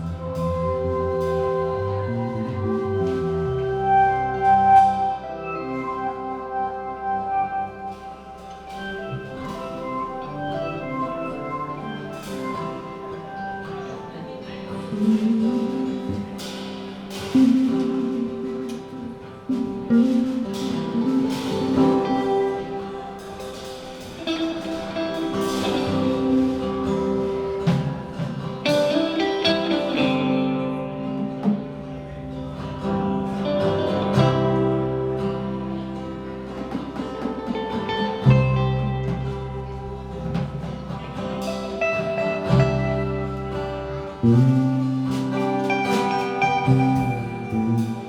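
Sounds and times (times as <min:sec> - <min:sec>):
guitar: 0:00.0 - 0:48.0
live band playing: 0:00.0 - 0:48.0.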